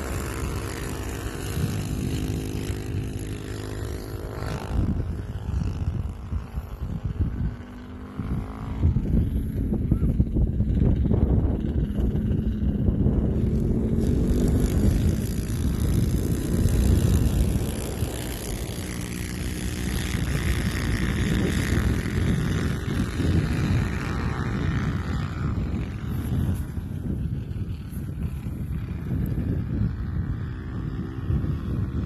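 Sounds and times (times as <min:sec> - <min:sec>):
minibike engines running hard: 0:00.0 - 0:32.0
wind rumbling on microphone: 0:00.0 - 0:32.0.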